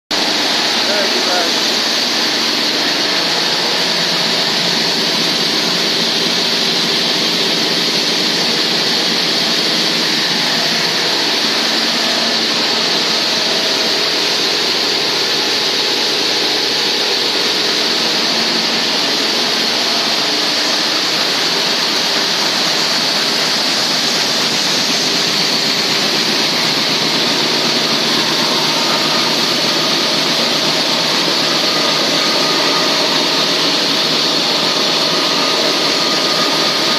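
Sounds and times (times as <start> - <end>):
granulating machine running: 0.1 - 36.9.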